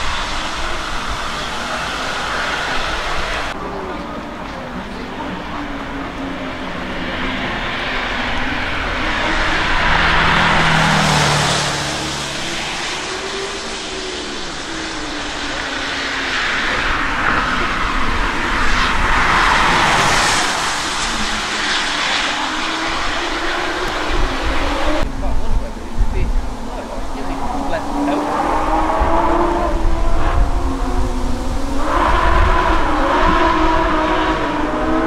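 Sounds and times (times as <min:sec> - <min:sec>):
car engines accelerating: 0:00.0 - 0:35.0.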